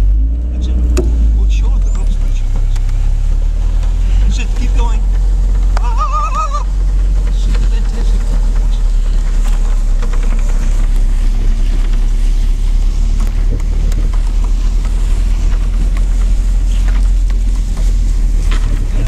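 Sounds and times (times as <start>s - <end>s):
vehicle driving across grass: 0.0s - 19.0s
wind buffeting microphone: 0.9s - 19.0s.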